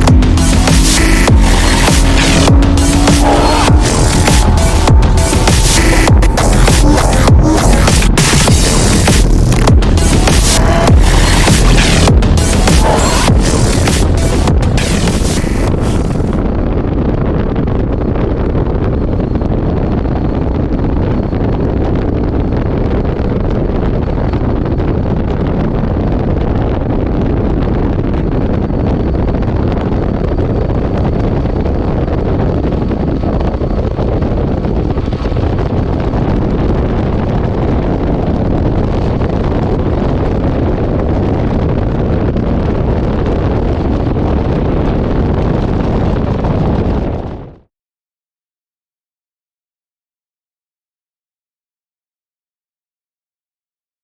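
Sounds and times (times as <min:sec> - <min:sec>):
wind rush on microphone: 0:00.0 - 0:47.7.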